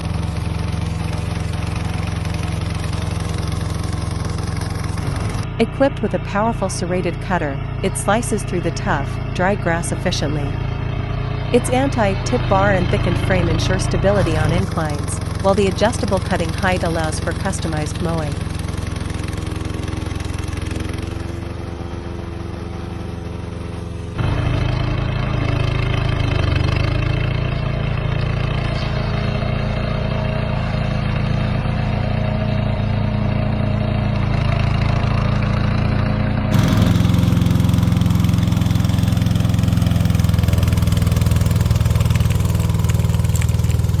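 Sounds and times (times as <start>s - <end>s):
mower petrol engine running: 0.0s - 6.4s, 7.2s - 44.0s.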